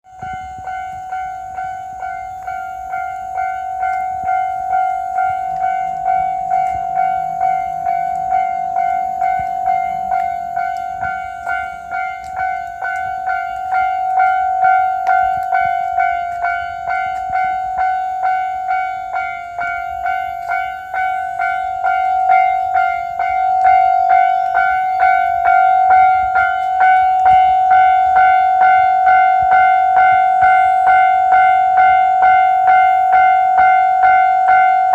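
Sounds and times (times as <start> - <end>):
electronic crossing bell dinging: 0.1 - 34.9.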